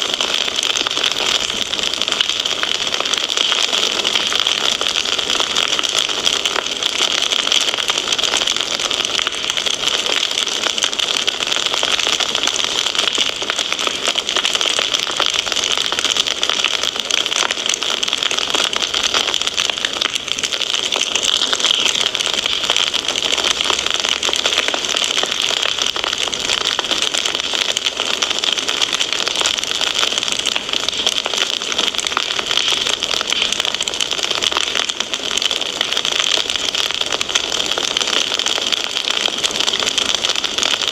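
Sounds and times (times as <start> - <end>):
fire crackling in a fireplace: 0.0 - 40.9.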